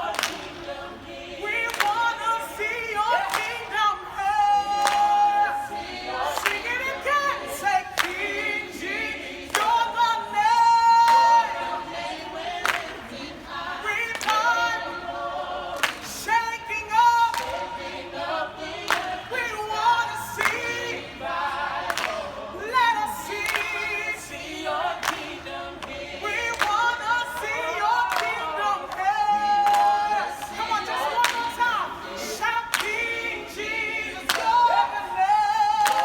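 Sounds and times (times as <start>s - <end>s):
group singing gospel unaccompanied: 0.0s - 36.0s.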